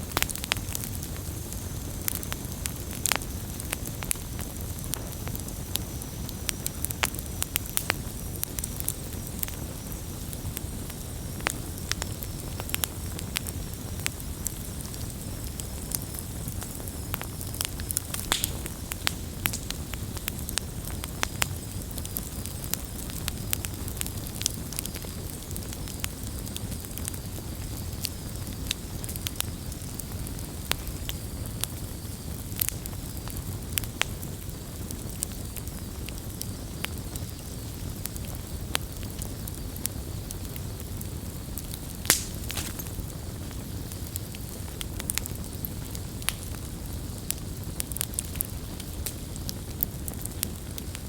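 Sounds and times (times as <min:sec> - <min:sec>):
campfire crackling and popping: 0:00.0 - 0:51.0
fire low rumble: 0:00.0 - 0:51.0.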